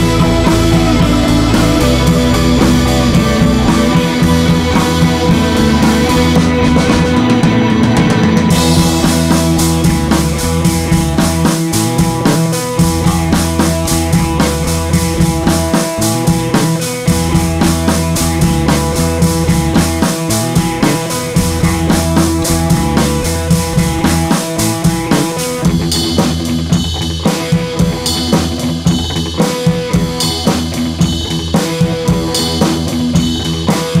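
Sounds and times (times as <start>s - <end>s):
dance music with driving drum beat: 0.0s - 34.0s.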